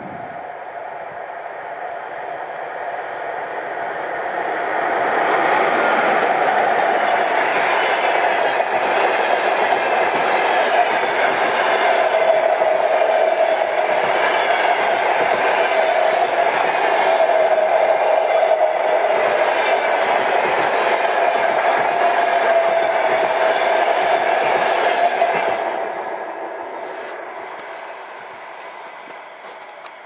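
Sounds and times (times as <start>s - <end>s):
train wheels rolling on rail: 0.0s - 30.0s.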